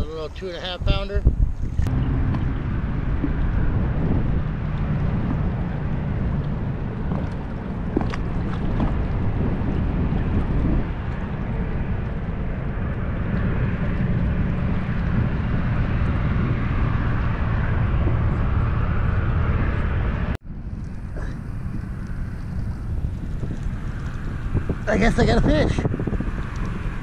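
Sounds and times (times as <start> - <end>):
outdoor rush: 0.0 - 27.0
wind buffeting microphone: 0.0 - 27.0.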